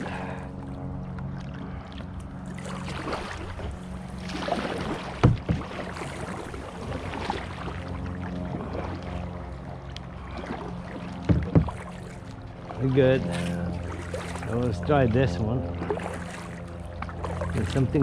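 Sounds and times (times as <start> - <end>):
paddle strokes swishing through water: 0.0 - 18.0
steady low hum: 0.0 - 18.0.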